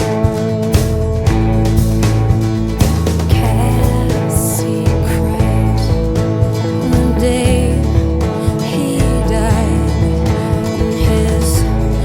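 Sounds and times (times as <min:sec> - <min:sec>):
country pop band playing: 0:00.0 - 0:12.0.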